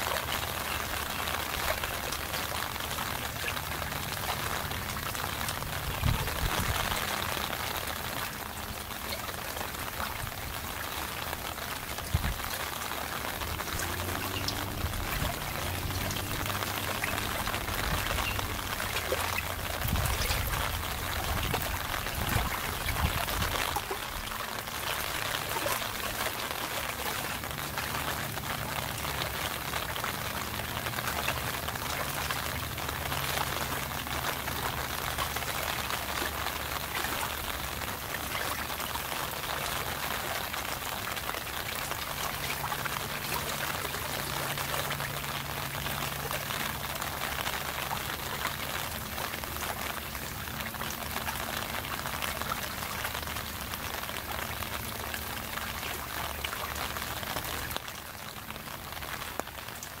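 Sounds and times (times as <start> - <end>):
steady rain patter: 0.0 - 60.0.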